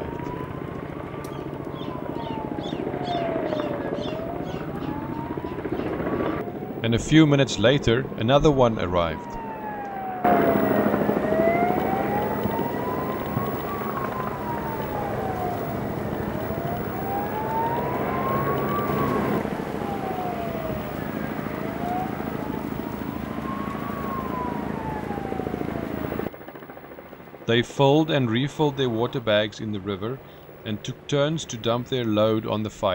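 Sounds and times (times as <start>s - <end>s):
steady low rumble: 0.0s - 26.4s
siren wailing: 0.0s - 26.7s.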